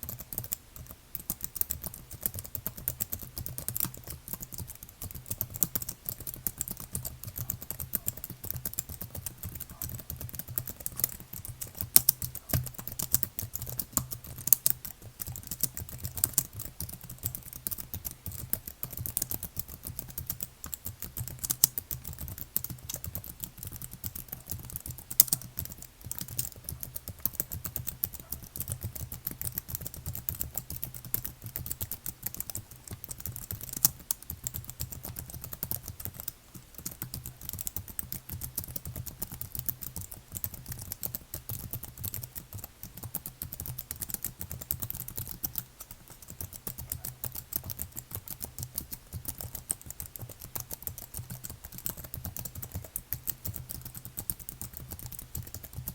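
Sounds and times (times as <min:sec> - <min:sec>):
keyboard typing: 0:00.0 - 0:55.9.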